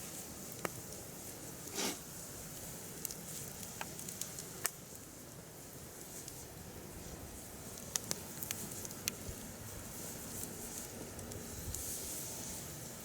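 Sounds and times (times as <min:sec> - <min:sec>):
fire crackling and popping: 0:00.0 - 0:13.0
firewood hissing: 0:00.0 - 0:13.0.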